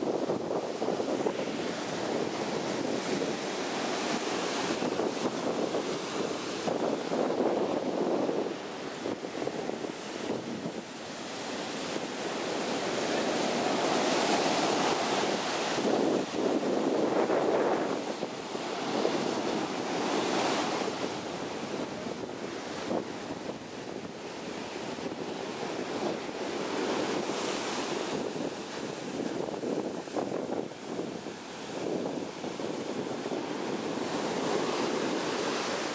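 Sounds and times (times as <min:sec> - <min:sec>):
ocean surf breaking: 0:00.0 - 0:35.9.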